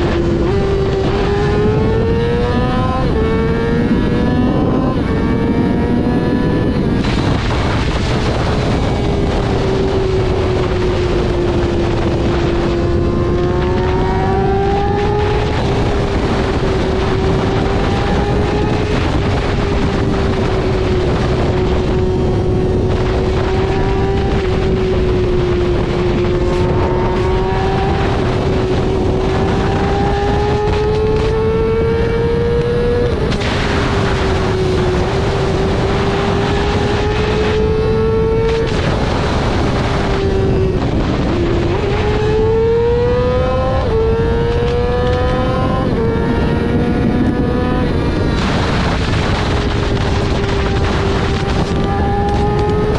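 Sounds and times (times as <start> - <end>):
motorcycle engine at high revs: 0.0 - 52.9
wind noise: 0.0 - 52.9.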